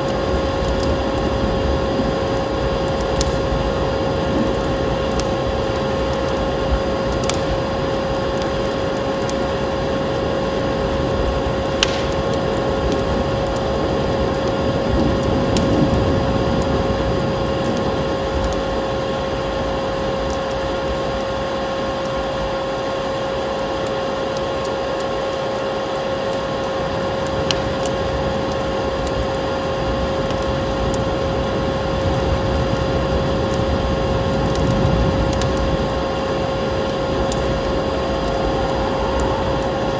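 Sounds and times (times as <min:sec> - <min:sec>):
wood fire crackles: 0:00.0 - 0:39.9.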